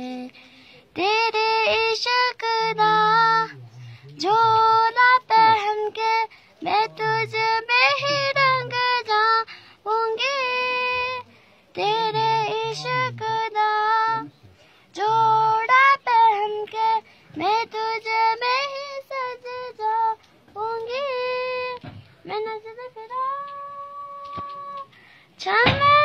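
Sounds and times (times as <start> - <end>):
child singing: 0.9 - 3.6, 4.2 - 14.3, 15.0 - 26.0.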